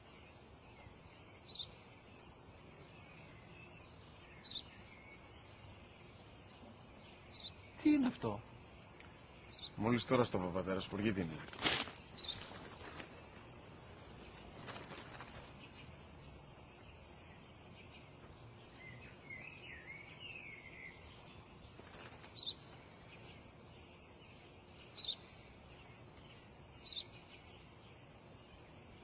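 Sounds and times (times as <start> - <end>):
soft outdoor hiss: 0.0 - 29.0
sparrow chirping: 0.0 - 29.0.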